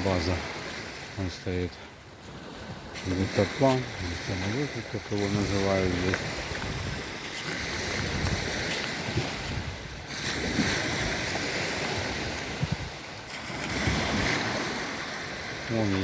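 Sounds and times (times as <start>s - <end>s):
small waves washing ashore: 0.0s - 16.0s
wind buffeting microphone: 2.2s - 16.0s.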